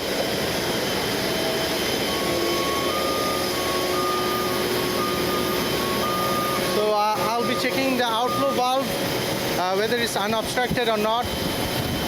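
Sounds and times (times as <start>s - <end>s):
high whine: 0.0s - 12.0s
machinery rushing drone: 0.0s - 12.0s.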